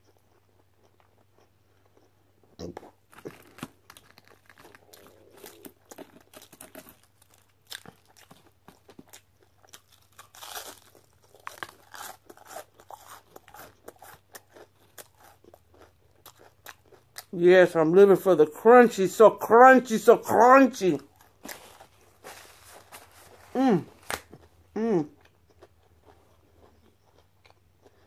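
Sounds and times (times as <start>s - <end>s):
chewing crunchy onion rings: 0.0s - 28.0s.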